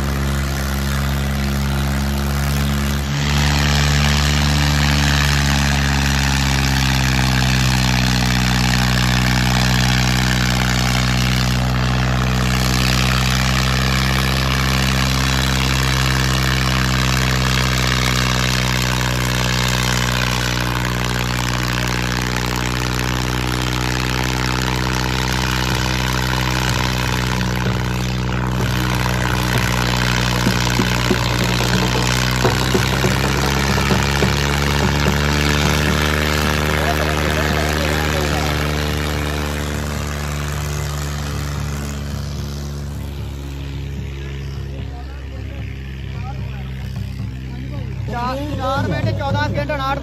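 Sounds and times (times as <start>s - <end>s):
tractor diesel engine under load: 0.0s - 50.0s.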